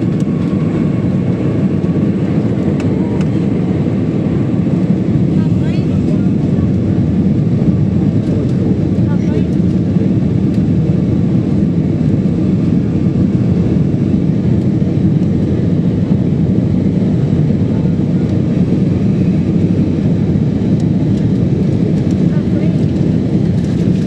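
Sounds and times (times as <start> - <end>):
jet airliner cabin noise: 0.0 - 24.0.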